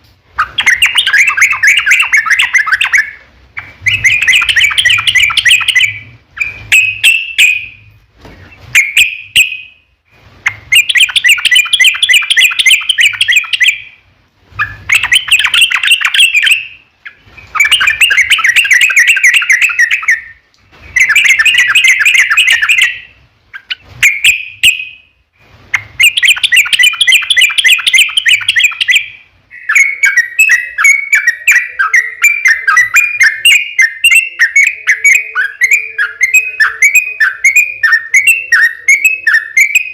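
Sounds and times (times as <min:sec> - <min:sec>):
bird song: 0:00.4 - 0:39.9.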